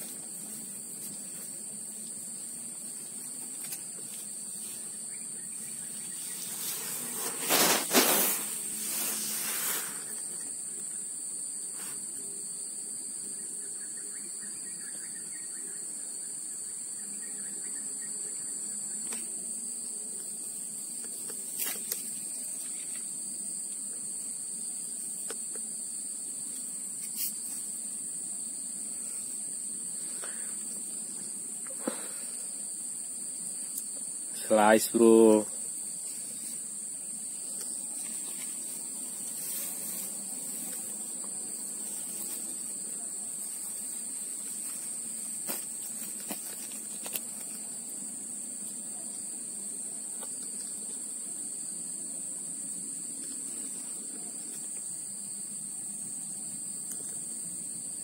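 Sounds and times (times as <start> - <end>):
insects droning in grass: 0.0 - 58.0.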